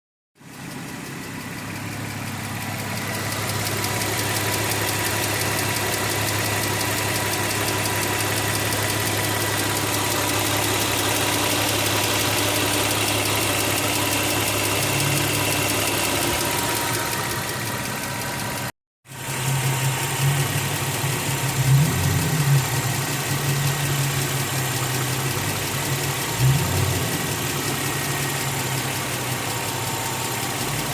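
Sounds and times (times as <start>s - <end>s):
car engine idling: 0.4s - 30.9s
clicking from engine: 0.4s - 30.9s.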